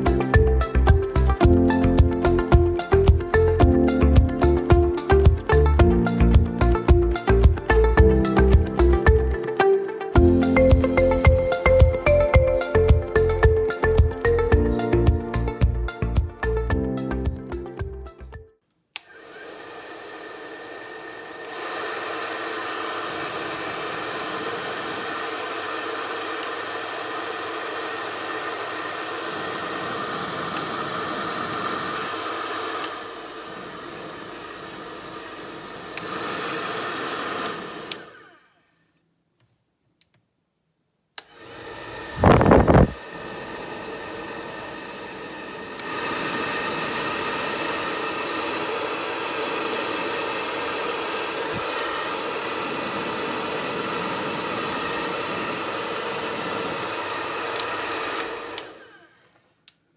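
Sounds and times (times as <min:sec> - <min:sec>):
hair dryer winding down whine: 0:00.0 - 0:15.2, 0:19.0 - 0:38.7, 0:41.2 - 0:59.4
hair dryer running: 0:00.0 - 0:16.3, 0:19.0 - 0:38.6, 0:41.2 - 0:59.4.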